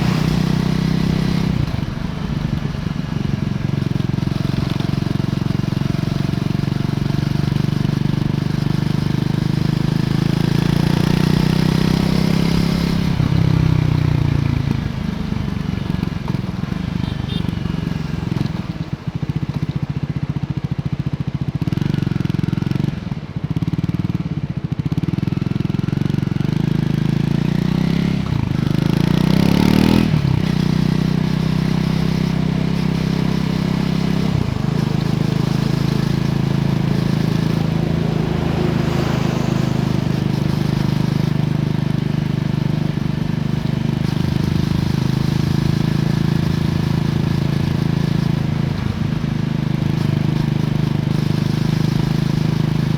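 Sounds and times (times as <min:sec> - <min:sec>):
motorcycle engine while riding: 0:00.0 - 0:52.9.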